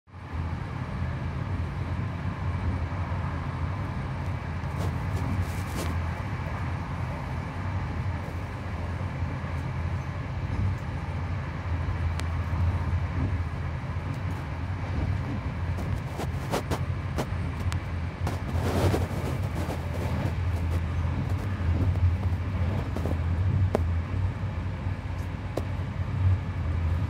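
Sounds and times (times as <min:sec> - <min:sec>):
train rumble inside carriage: 0:00.1 - 0:27.0.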